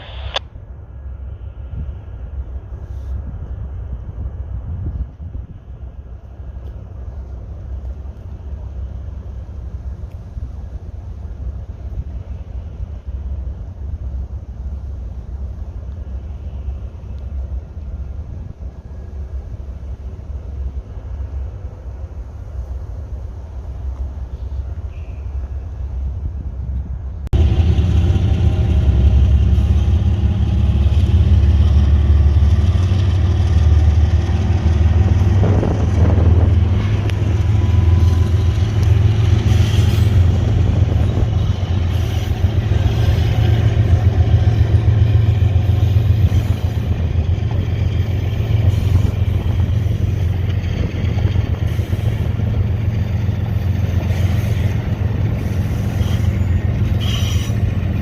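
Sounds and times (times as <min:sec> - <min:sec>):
diesel locomotive engines running: 0:00.0 - 0:58.0
rail and wheel noise: 0:00.0 - 0:58.0.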